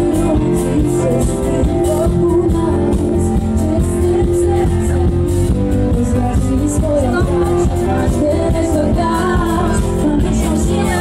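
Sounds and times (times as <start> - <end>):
live pop music: 0.0 - 11.0
person singing: 0.0 - 11.0.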